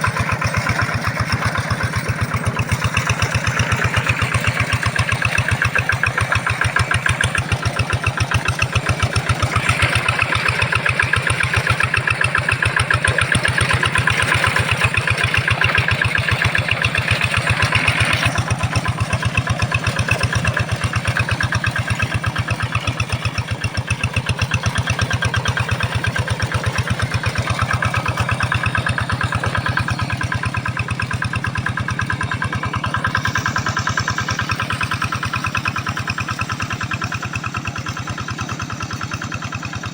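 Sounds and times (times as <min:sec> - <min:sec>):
hand tractor engine chugging: 0:00.0 - 0:39.9.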